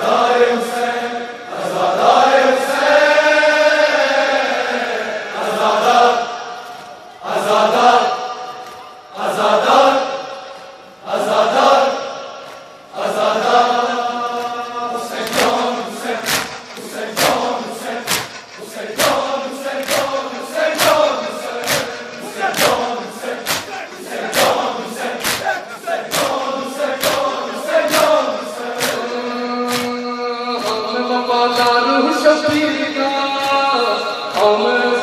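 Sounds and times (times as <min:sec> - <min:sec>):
crowd of men chanting: 0:00.0 - 0:35.0.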